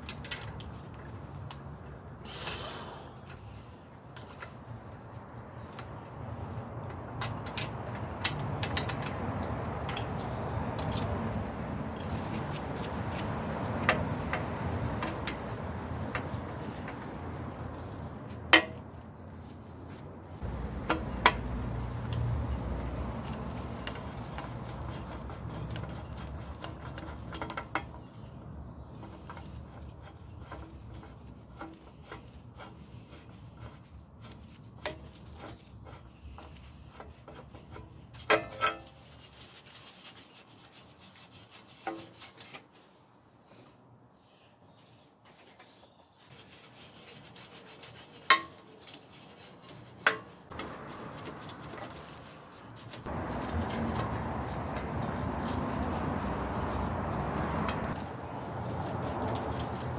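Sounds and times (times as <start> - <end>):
rubbing and scraping on bicycle part: 0.0 - 59.9.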